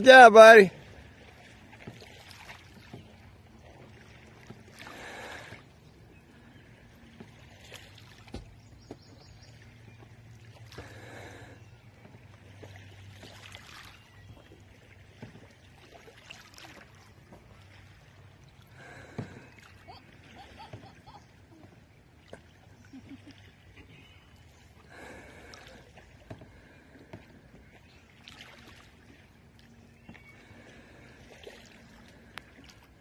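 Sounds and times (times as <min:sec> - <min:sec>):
paddle swishing through water: 0:00.0 - 0:33.0.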